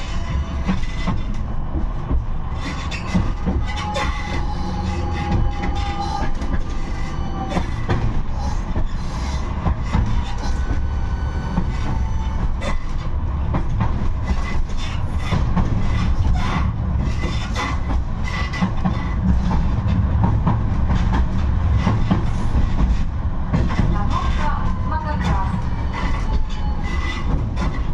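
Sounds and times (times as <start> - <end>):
tram rumbling on track: 0.0 - 27.9
wheels clicking over rails: 0.0 - 27.9.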